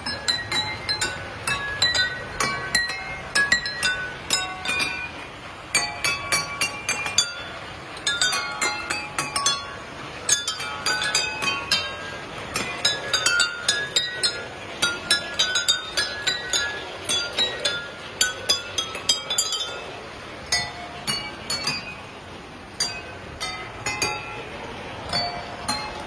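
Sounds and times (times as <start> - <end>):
glasses struck in a melody: 0.0 - 26.0.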